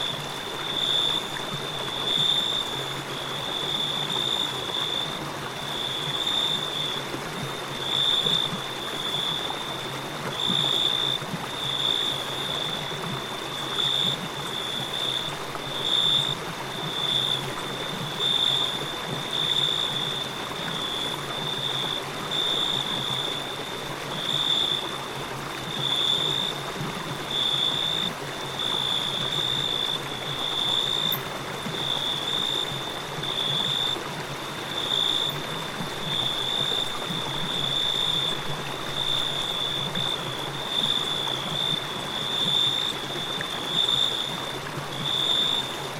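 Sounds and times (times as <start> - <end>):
crickets trilling: 0.0 - 45.9
flowing river rushing: 0.0 - 45.9.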